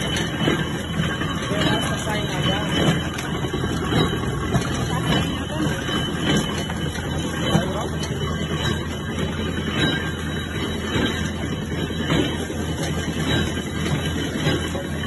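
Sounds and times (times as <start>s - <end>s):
sugarcane mill grinding: 0.0s - 15.0s.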